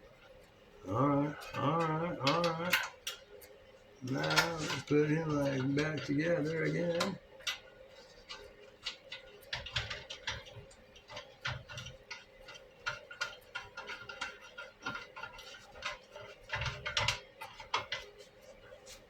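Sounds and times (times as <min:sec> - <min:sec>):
faint steady hum: 0:00.0 - 0:19.0
tools and metal parts clicking: 0:01.4 - 0:03.2, 0:04.0 - 0:07.6, 0:08.2 - 0:18.1.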